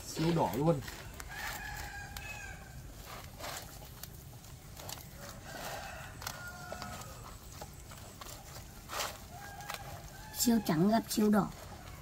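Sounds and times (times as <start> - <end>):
chicken and bird calls: 0.9 - 3.6, 4.9 - 12.0.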